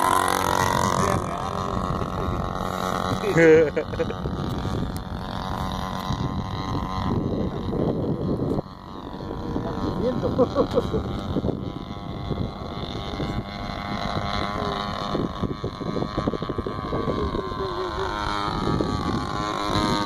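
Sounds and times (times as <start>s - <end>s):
model airplane motor droning: 0.0s - 20.0s
wind buffeting microphone: 0.0s - 20.0s.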